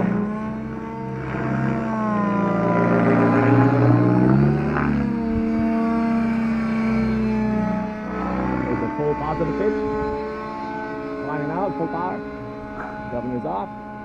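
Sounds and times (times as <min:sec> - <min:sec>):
model helicopter engine running: 0:00.0 - 0:14.0.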